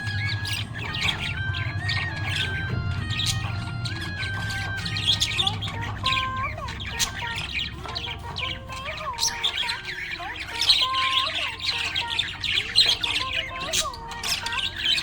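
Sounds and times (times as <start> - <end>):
budgerigar chattering: 0.0 - 15.0.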